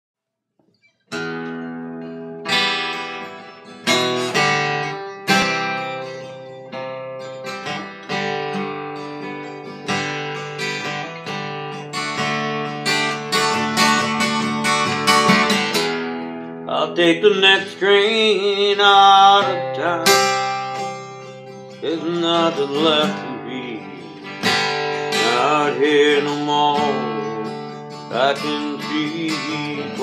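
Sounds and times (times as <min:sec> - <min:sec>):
acoustic guitar strumming: 0:01.1 - 0:30.0.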